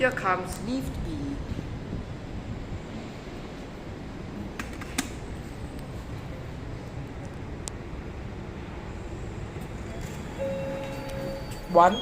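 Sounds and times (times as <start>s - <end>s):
lift rumbling: 0.0s - 12.0s.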